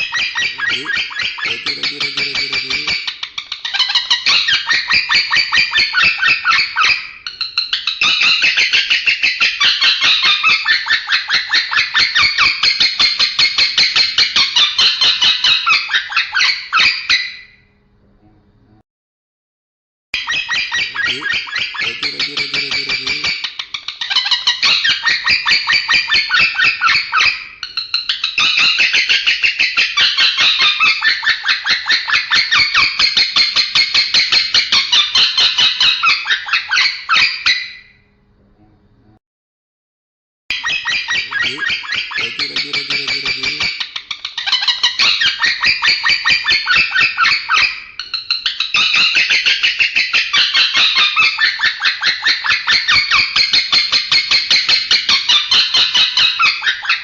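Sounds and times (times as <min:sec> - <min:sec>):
lovebird chattering: 0:00.0 - 0:12.6, 0:20.2 - 0:37.6, 0:40.5 - 0:57.0.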